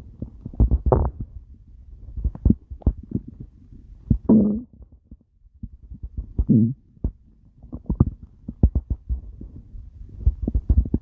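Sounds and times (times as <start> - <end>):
stomach growling and gurgling: 0.0 - 11.0
quick pops and thumps: 0.2 - 1.4, 2.2 - 3.5, 4.1 - 11.0.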